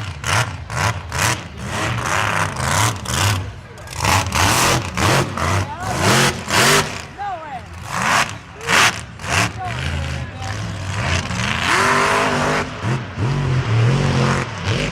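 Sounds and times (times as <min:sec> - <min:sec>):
truck engine revving hard: 0:00.0 - 0:14.9.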